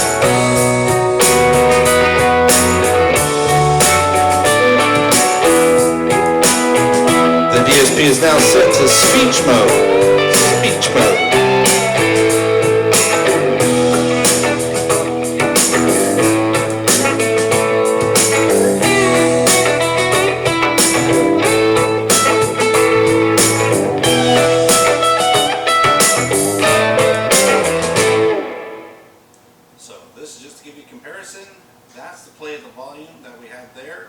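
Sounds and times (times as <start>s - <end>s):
guitar music through speaker: 0.0s - 29.1s.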